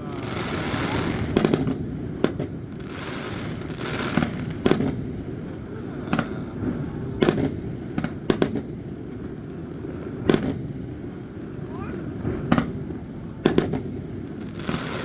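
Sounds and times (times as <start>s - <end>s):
fireworks rumble and crackle: 0.0s - 15.0s
fireworks sharp bangs: 0.0s - 15.0s.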